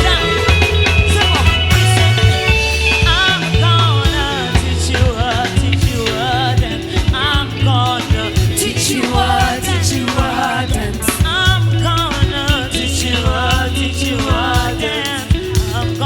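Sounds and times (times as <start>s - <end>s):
band with prominent bass: 0.0s - 16.0s
voices singing gospel: 0.0s - 16.0s.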